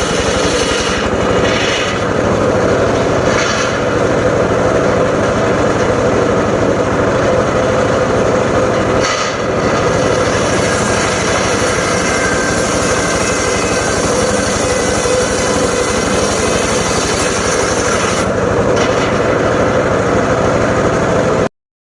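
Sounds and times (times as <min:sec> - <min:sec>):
engine-driven circular saw running: 0:00.0 - 0:21.5.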